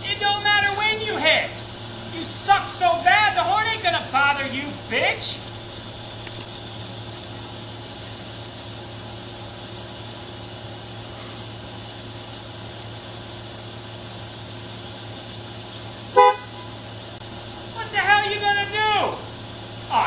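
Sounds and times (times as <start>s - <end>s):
low hum with hiss: 0.0s - 20.0s.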